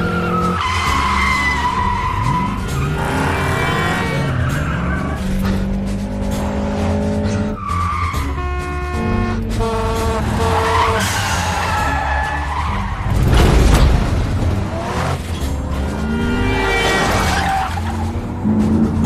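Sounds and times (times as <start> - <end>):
car engines revving hard: 0.0 - 19.0
car tyres squealing: 0.0 - 19.0
film music score: 0.0 - 19.0.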